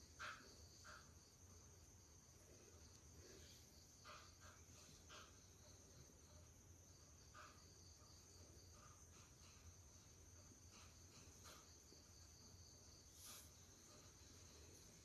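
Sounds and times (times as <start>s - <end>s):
faint high insect chirping: 0.0s - 15.0s.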